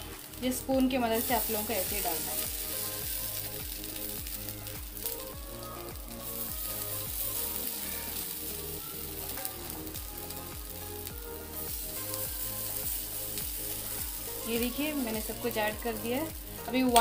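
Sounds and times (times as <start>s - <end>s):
background music with steady beat: 0.0s - 17.0s
batter sizzling in oil: 0.0s - 17.0s.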